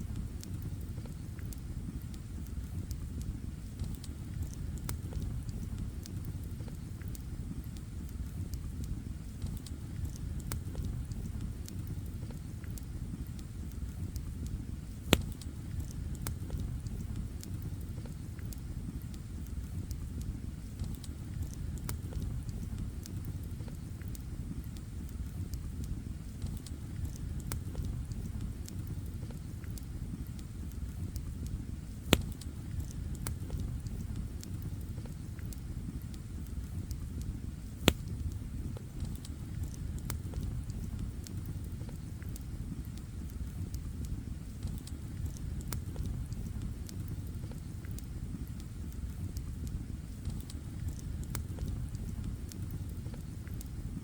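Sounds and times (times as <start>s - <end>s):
campfire crackling: 0.0s - 54.0s
low steady rumble: 0.0s - 54.0s.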